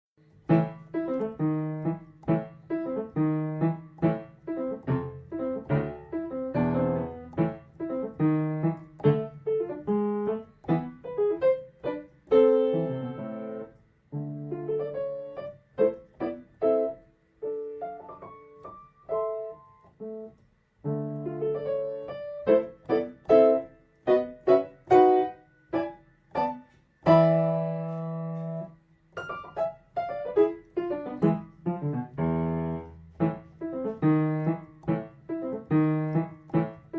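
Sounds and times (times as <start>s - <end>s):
solo piano music: 0.2s - 36.9s.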